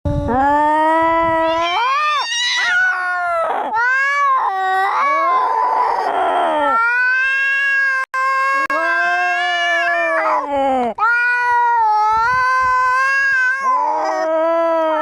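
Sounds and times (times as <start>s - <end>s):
cat yowling: 1.4s - 10.4s, 11.0s - 14.3s.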